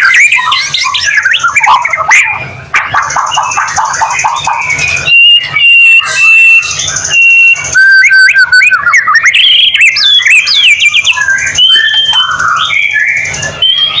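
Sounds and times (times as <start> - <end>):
songbird singing whistled notes: 0.0 - 14.0.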